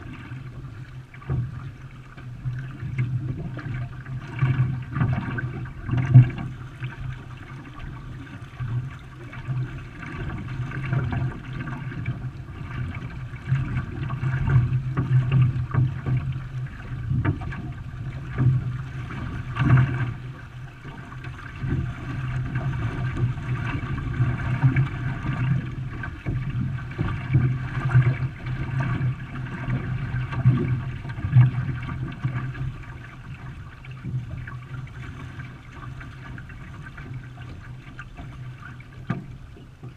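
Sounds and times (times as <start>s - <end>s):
water splashing along canoe: 0.0s - 39.9s.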